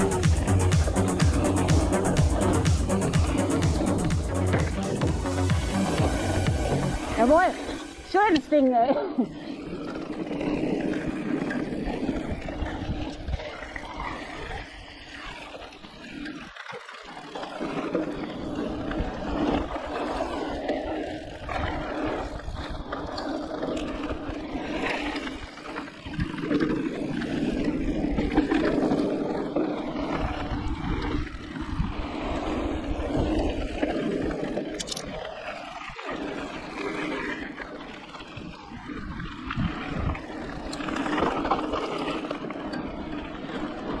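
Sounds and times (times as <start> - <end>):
wind on microphone: 0.0 - 16.1, 17.4 - 44.0
tyres rolling over dirt: 0.0 - 44.0.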